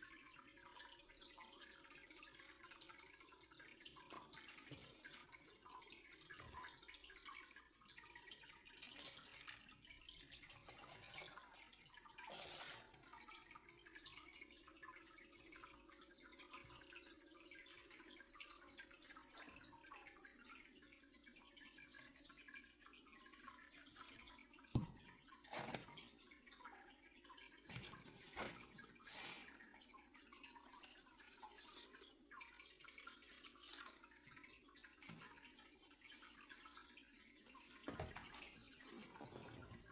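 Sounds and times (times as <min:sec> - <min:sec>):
running and dripping water: 0:00.0 - 0:39.9.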